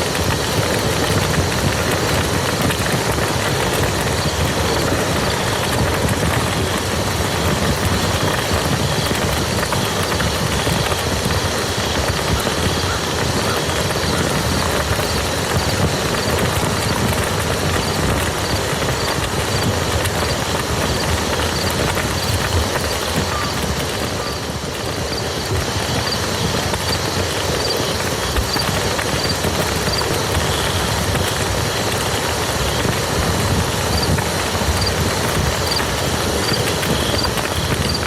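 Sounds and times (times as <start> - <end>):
rain falling on a field: 0.0 - 38.0.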